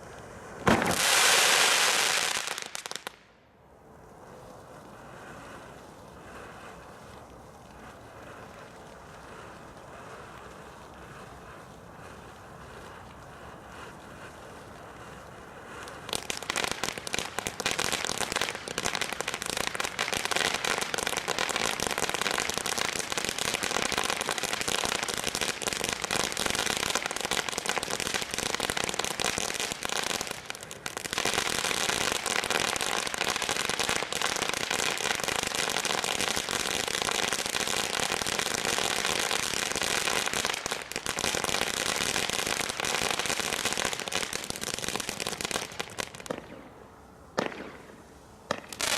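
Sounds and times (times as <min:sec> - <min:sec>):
firework crackling and popping: 0:00.0 - 0:03.4, 0:04.0 - 0:48.9.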